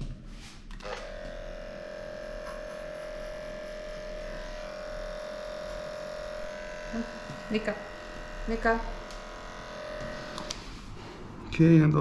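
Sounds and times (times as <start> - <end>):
electric clippers humming: 0.8 - 10.8.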